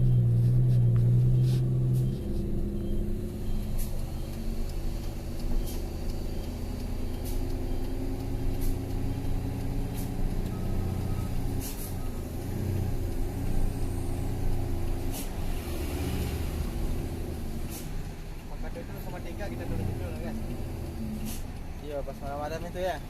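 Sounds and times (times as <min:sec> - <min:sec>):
truck engine running in low gear: 0:00.0 - 0:23.0.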